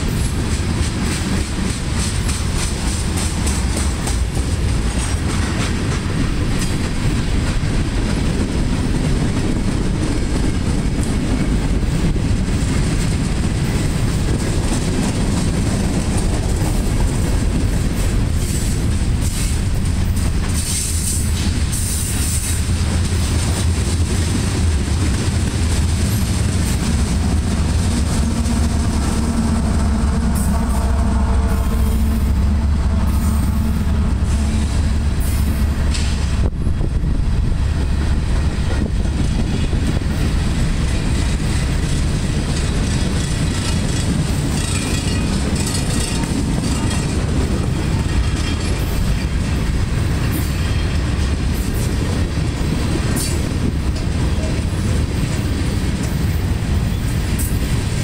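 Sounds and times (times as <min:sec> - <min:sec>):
diesel locomotive engine drone: 0:00.0 - 0:58.0
train wheels rumbling on rails: 0:00.0 - 0:58.0.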